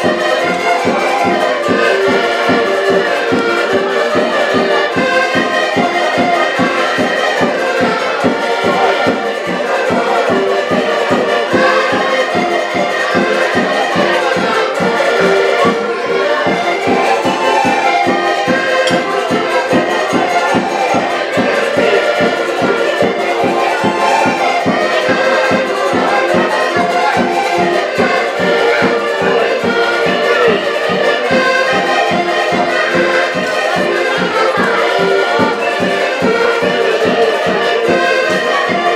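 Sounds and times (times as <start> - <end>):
button accordions playing folk tune: 0.0 - 38.9.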